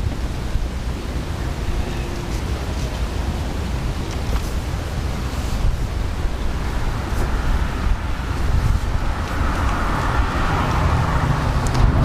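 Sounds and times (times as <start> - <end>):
faint vehicle hum: 0.0 - 12.0
wind buffeting microphone: 0.0 - 12.0.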